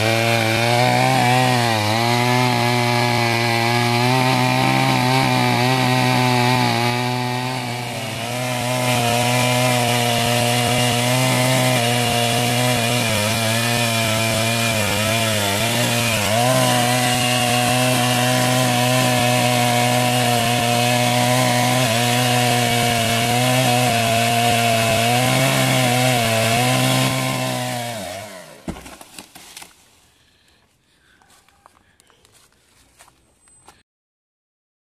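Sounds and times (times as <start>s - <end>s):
power tool cutting wood: 0.0s - 29.0s.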